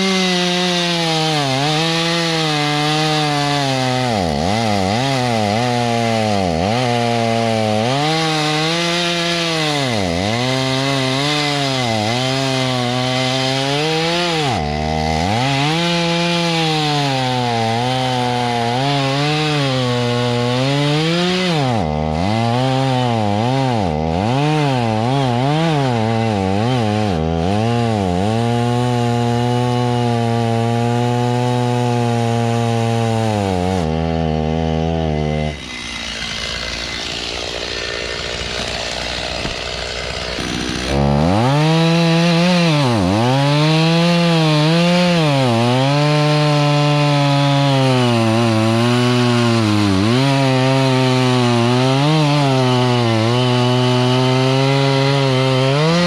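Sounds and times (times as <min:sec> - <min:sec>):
stump grinder grinding hiss: 0:00.0 - 0:56.0.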